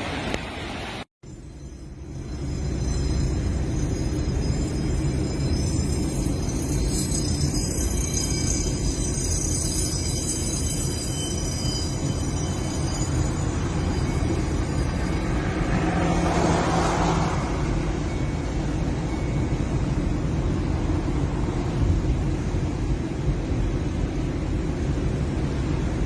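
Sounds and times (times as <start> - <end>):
car rumbling on the move: 1.3 - 26.0.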